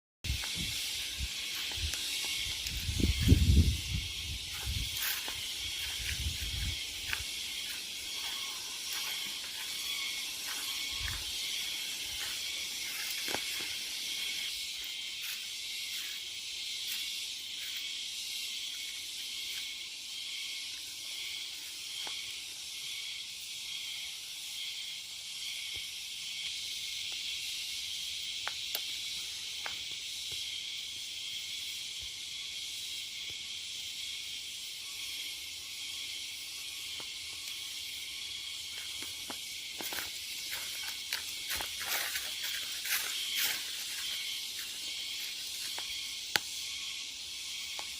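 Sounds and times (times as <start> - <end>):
high-pitched pulsing hiss: 0.3 - 47.9.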